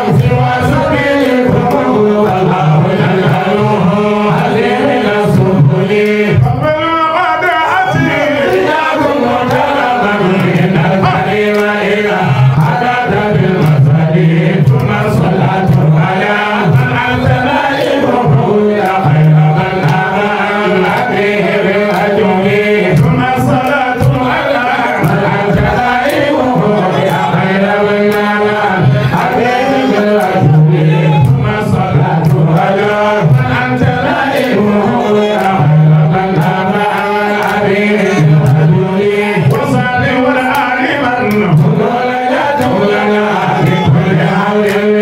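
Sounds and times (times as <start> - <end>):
man chanting religious song: 0.0 - 45.0.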